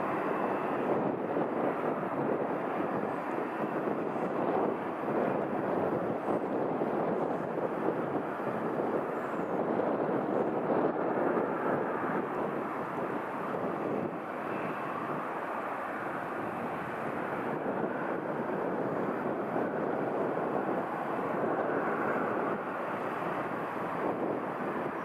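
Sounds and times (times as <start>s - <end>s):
jet engines droning: 0.0s - 25.0s.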